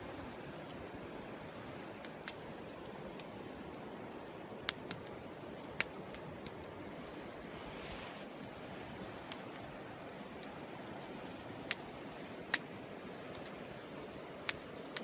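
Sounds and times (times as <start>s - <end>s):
campfire crackling and popping: 0.0s - 15.0s
river water rushing: 0.0s - 15.0s.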